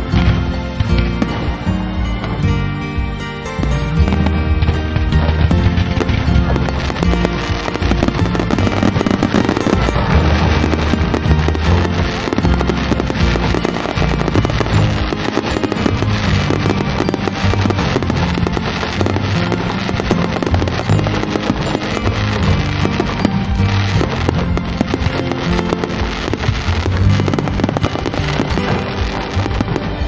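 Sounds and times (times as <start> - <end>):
fireworks bursting and crackling: 0.0 - 30.0
ground fountains spraying: 0.0 - 30.0
music with held bass notes: 0.0 - 30.0.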